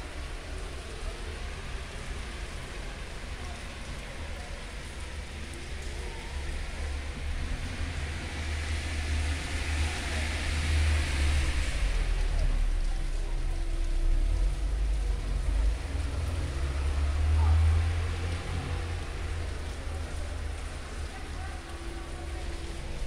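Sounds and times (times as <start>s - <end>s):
rain falling: 0.0s - 23.0s
vehicle passing on wet road: 0.0s - 23.0s.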